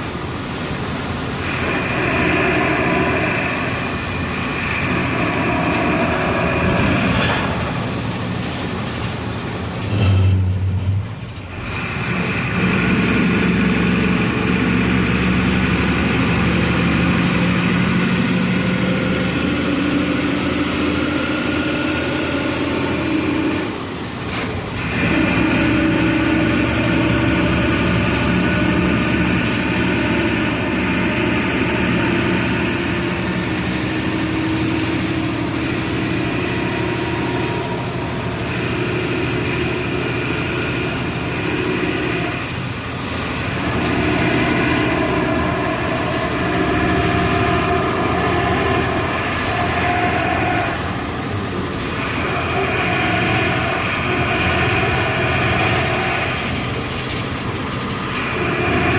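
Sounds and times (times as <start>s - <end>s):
diesel bus engine under load: 0.0s - 58.9s.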